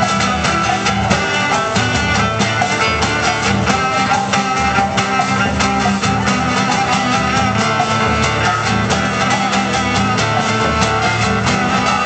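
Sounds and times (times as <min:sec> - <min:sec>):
drum kit: 0:00.0 - 0:12.0
guitar strumming: 0:00.0 - 0:12.0.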